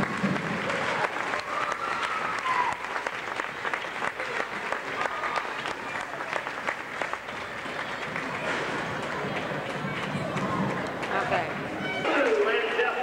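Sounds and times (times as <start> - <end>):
crowd clapping: 0.0 - 13.0
faint voices: 0.2 - 13.0.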